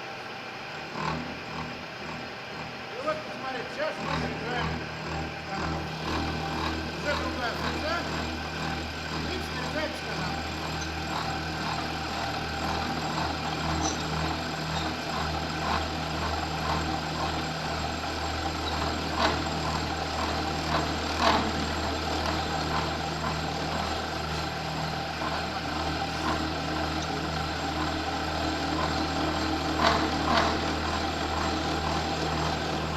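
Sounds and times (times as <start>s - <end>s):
milling machine motor hum: 0.0s - 32.9s
cutter ticking: 3.0s - 32.9s.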